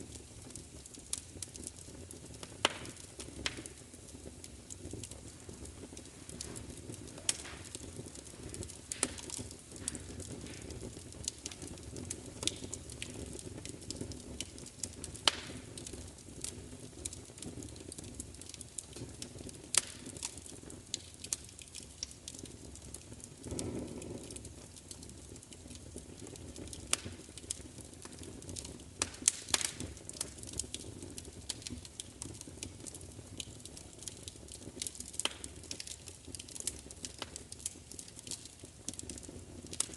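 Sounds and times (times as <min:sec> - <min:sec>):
fire crackling and popping: 0:00.0 - 0:39.9
low rustle of flames: 0:00.0 - 0:39.9.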